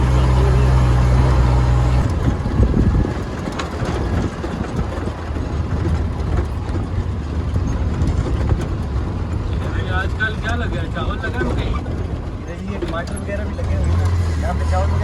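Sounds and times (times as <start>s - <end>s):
road noise rumble: 0.0s - 15.0s
vehicle engine hum: 0.0s - 15.0s.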